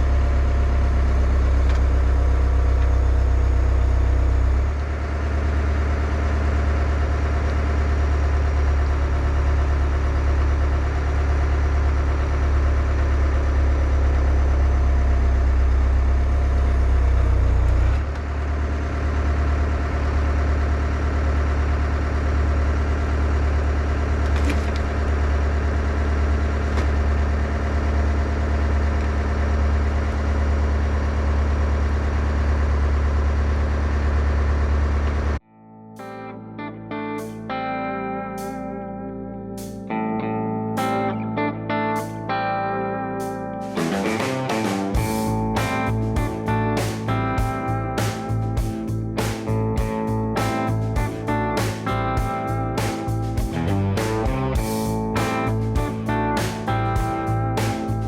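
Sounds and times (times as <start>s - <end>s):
skid steer engine running: 0.0s - 35.4s, 43.6s - 58.0s.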